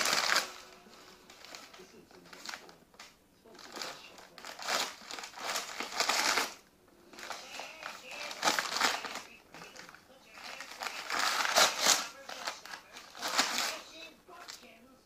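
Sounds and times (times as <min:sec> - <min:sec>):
newspaper crinkling and tearing: 0:00.0 - 0:14.8.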